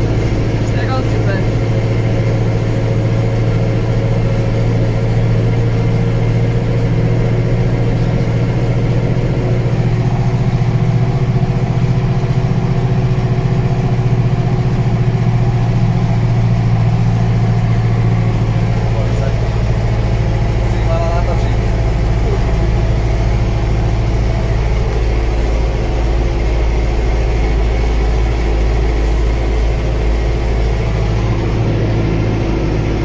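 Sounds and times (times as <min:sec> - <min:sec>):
tractor diesel engine humming: 0:00.0 - 0:33.0.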